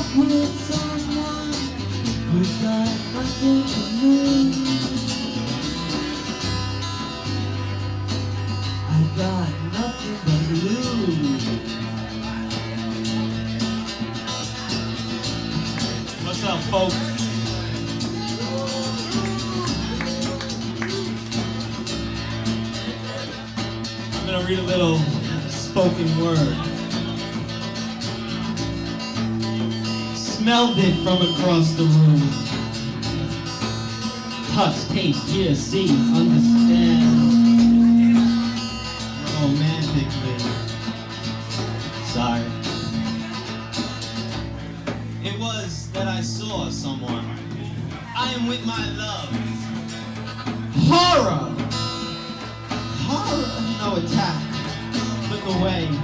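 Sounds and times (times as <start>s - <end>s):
bass line: 0.0s - 56.0s
guitar music: 0.0s - 56.0s
rock band playing: 0.0s - 56.0s.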